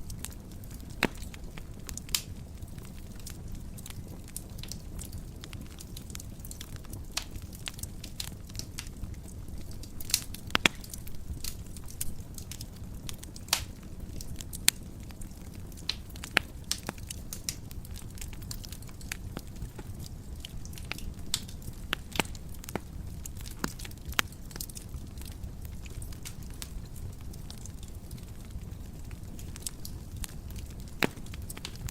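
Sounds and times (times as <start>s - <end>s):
logs crackling and popping: 0.0s - 31.9s
low rumble of flames: 0.0s - 31.9s.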